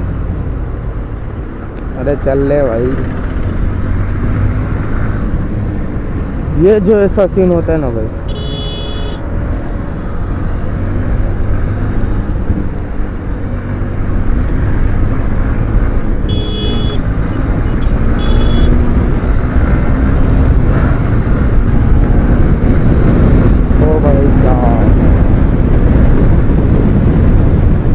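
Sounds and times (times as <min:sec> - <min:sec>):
motorcycle engine and road rush: 0:00.0 - 0:27.9.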